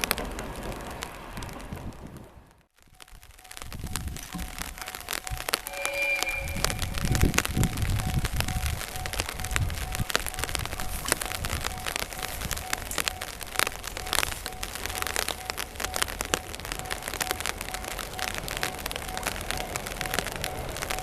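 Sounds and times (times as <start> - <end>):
rain spattering: 0.0 - 21.0
steady low rumble: 1.5 - 21.0
faint repeating tone: 3.0 - 21.0.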